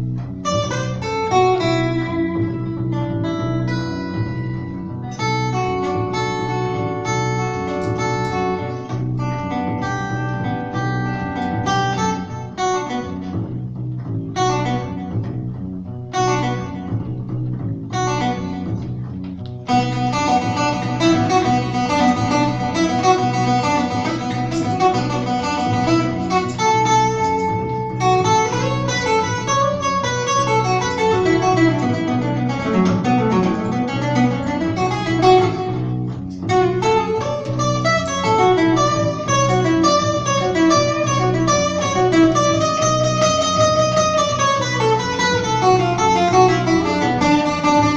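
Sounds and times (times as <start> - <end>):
acoustic guitar jazz playing: 0.0 - 47.9
upright bass: 0.0 - 47.9.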